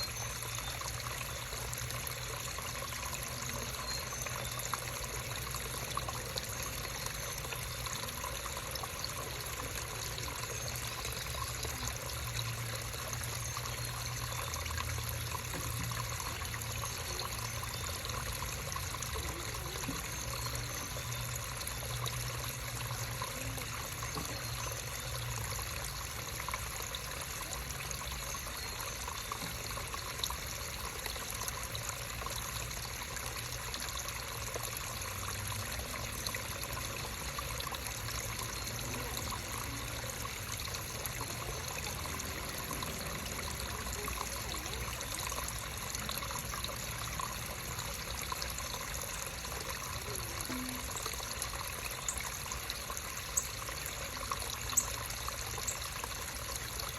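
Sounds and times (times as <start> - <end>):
creek water trickling: 0.0 - 56.9.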